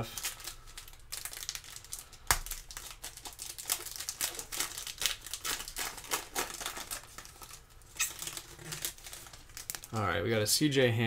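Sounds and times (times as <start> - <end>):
foil pack tearing and crinkling: 0.0 - 10.0.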